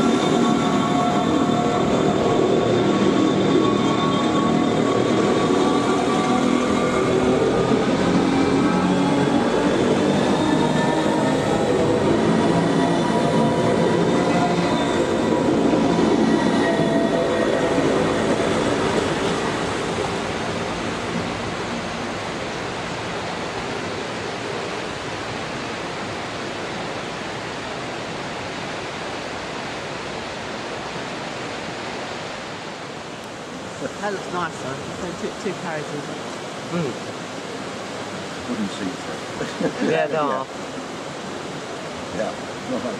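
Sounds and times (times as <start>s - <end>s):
steady rushing background noise: 0.0s - 42.9s.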